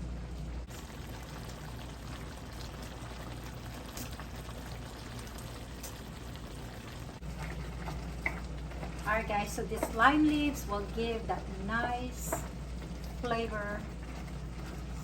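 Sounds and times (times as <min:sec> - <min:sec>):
curry simmering in a pan: 0:00.7 - 0:11.6, 0:12.4 - 0:15.0.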